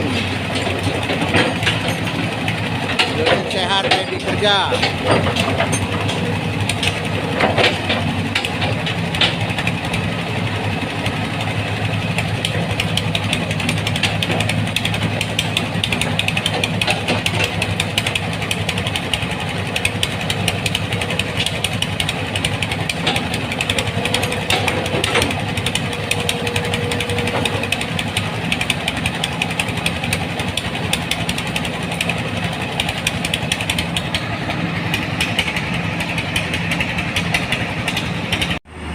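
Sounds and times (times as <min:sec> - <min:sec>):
excavator diesel engine clattering: 0:00.0 - 0:38.9.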